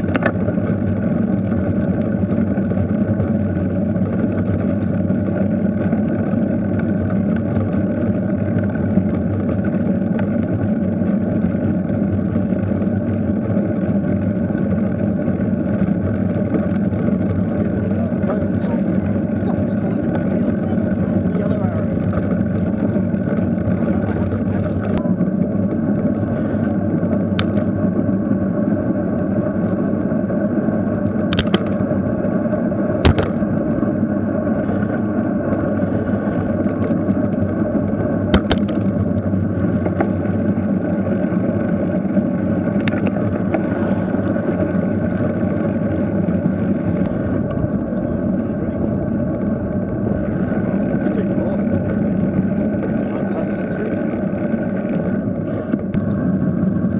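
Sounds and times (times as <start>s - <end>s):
road rumble: 0.0s - 56.9s
wind noise: 0.0s - 56.9s.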